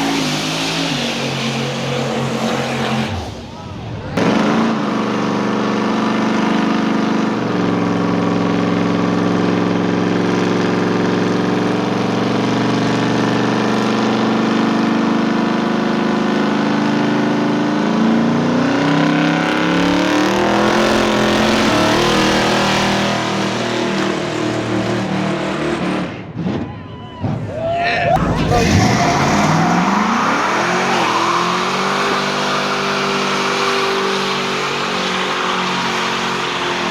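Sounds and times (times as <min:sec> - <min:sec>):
car engine revving: 0:00.0 - 0:26.5, 0:28.2 - 0:36.9.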